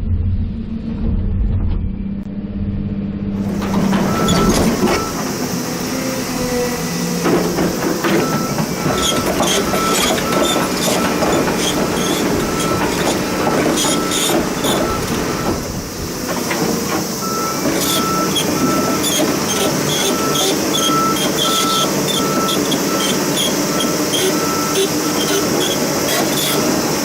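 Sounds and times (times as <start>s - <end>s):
excavator engine running: 0.0s - 27.0s
warning alarm beeping: 3.4s - 15.9s, 17.2s - 26.6s.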